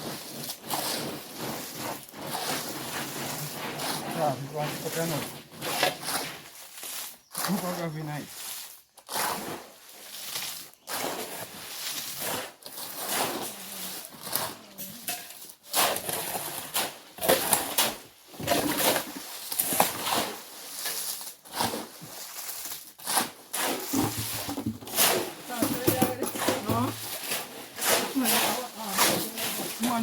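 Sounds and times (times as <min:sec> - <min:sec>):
shovels scraping concrete mix: 0:00.0 - 0:30.0.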